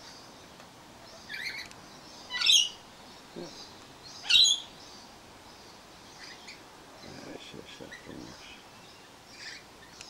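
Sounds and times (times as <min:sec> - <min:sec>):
lorikeets screeching: 0:01.1 - 0:10.0.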